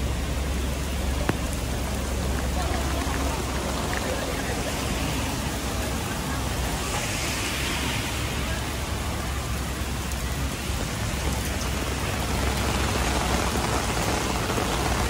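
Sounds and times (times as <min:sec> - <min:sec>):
rain falling on pavement: 0:00.0 - 0:15.0.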